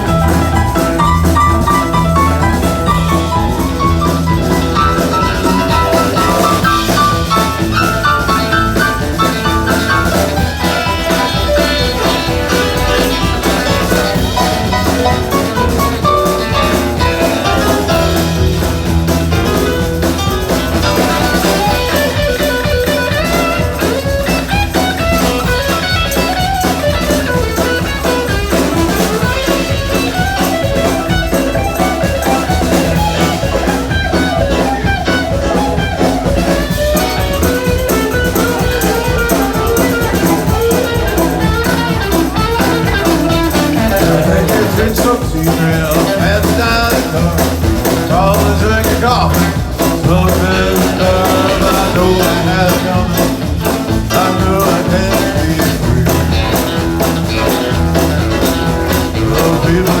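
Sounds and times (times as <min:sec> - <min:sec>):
live blues-rock band playing: 0:00.0 - 1:00.0.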